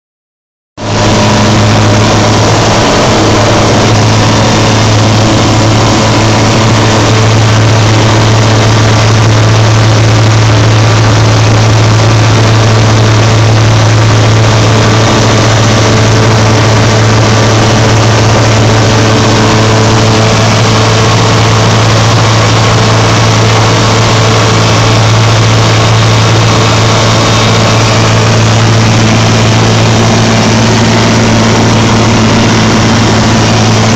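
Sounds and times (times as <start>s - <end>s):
propeller aircraft engine droning: 0.8s - 33.9s.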